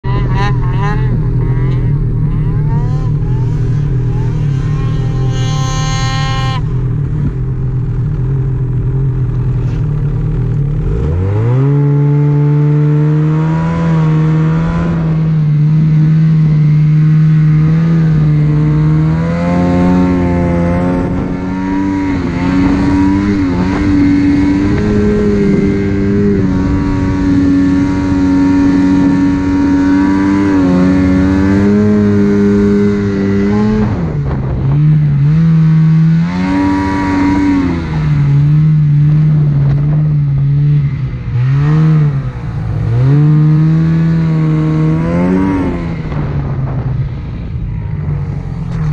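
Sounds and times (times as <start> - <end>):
snowmobile engine revving: 0.0 - 48.9.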